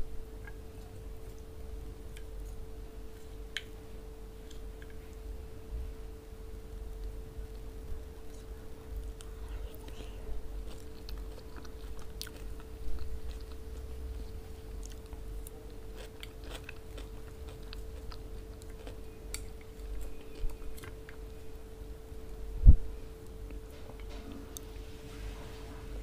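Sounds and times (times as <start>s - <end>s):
faint steady hum: 0.0s - 26.0s
person chewing food: 0.3s - 5.4s, 6.6s - 22.4s.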